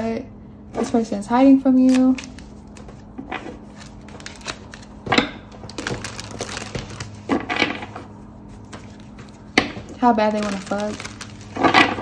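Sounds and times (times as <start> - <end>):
cards being shuffled: 1.8 - 12.0.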